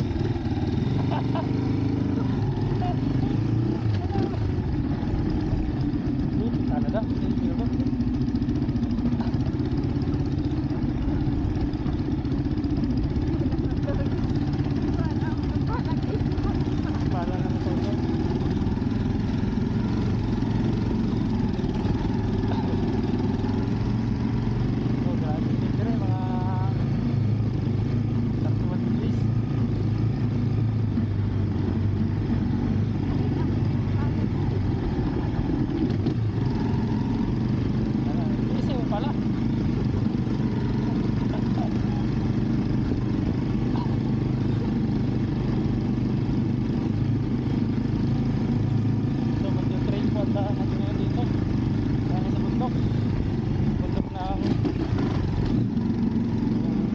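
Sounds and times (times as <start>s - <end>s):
motorcycle engine running: 0.0s - 56.9s
wind and road noise: 0.0s - 56.9s.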